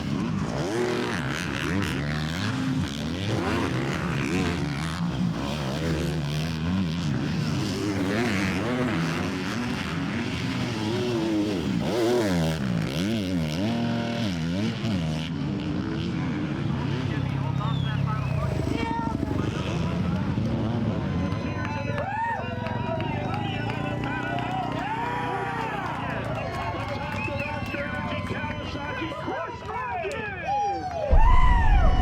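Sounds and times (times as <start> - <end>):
motocross bikes racing: 0.0 - 31.4.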